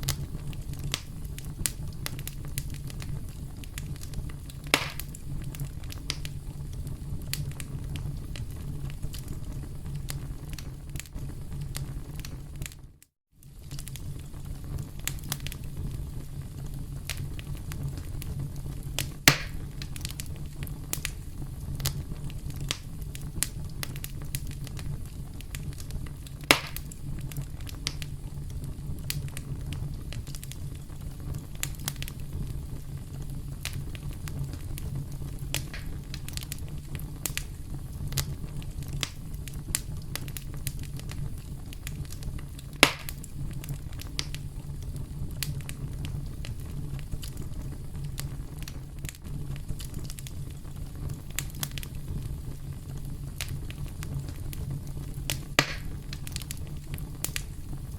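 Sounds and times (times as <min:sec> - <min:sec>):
campfire crackling: 0:00.0 - 0:57.9
fire pops: 0:00.0 - 0:57.9.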